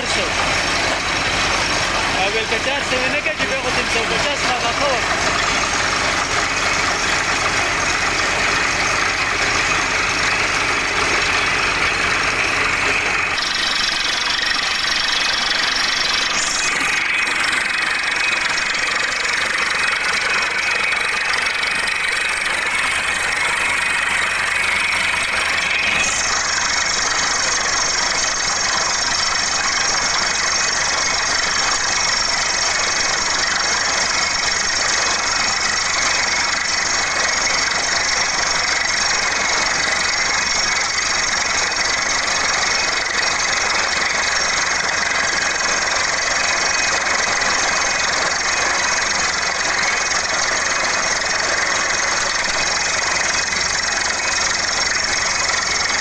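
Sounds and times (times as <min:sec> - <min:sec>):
drilling rig engine: 0:00.0 - 0:56.0.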